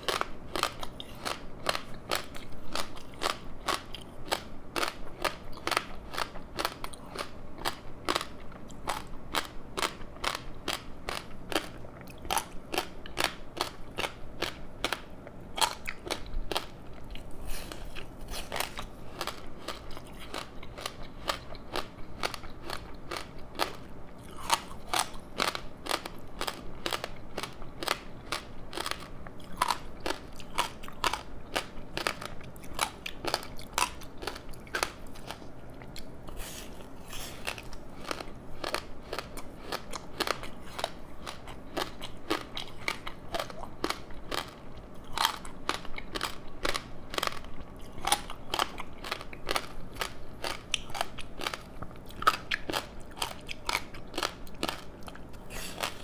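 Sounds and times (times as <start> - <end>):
person chewing crunchy snack: 0.0 - 56.0.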